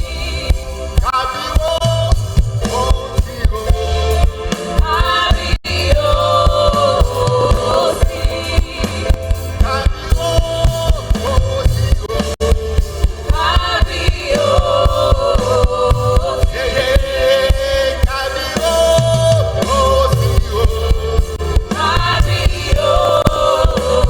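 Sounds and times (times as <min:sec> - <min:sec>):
band with drum beat and bass: 0:00.0 - 0:24.0
voices singing held notes: 0:00.0 - 0:24.0.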